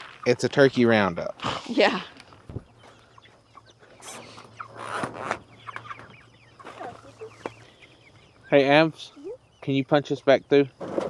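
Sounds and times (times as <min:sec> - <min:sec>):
poultry clucking and peeping: 0:00.0 - 0:11.0.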